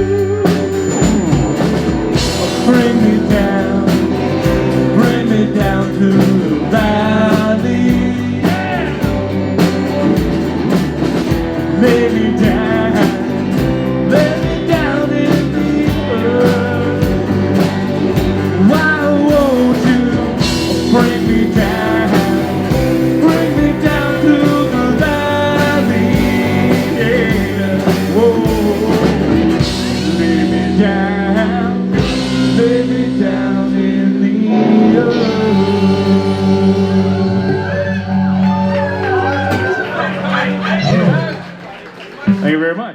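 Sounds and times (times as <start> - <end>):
electric guitar lead bends: 0.0 - 41.6
live rock band playing: 0.0 - 42.5.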